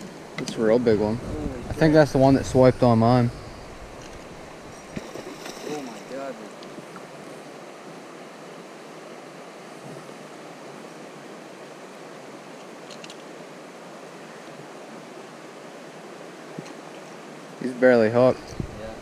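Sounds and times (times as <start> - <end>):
flowing creek water: 0.0 - 19.0.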